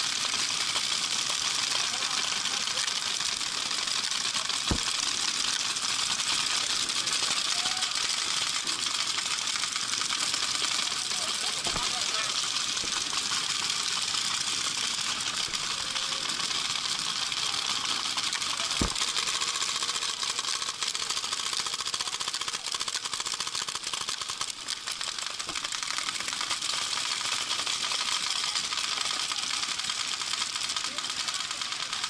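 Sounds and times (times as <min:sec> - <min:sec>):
paintball markers firing rapidly: 0:00.0 - 0:32.0.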